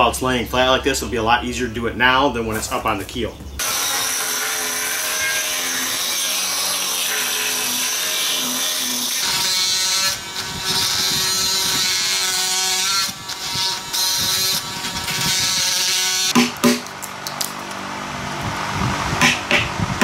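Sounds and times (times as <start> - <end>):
power tool cutting wood: 3.6 - 20.0
power tool whine: 3.6 - 20.0.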